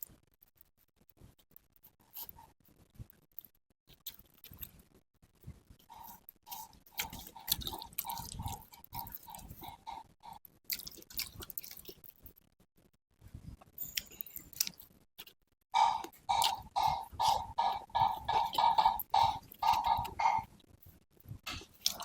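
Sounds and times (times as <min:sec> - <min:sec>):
chewing food: 0:00.0 - 0:12.5, 0:13.8 - 0:22.0.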